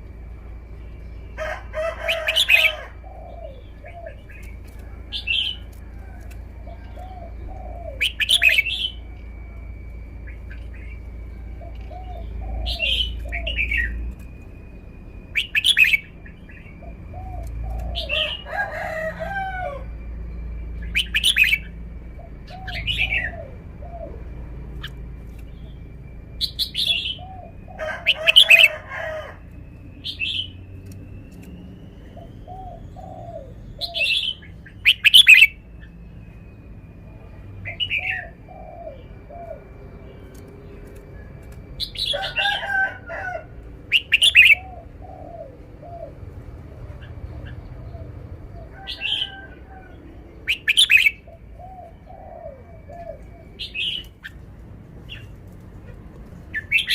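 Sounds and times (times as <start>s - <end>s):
thin steady high tone: 0.0s - 55.6s
bulbul singing: 0.0s - 56.9s
lower run of bird notes: 0.0s - 56.9s.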